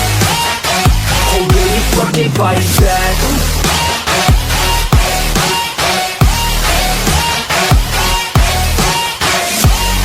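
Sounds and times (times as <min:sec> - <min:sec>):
electronic music with heavy beat: 0:00.0 - 0:10.0.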